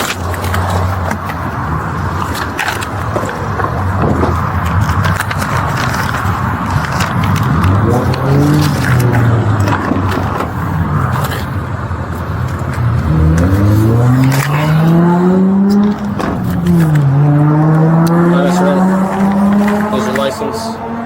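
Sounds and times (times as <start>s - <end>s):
car engines accelerating past: 0.0s - 21.0s.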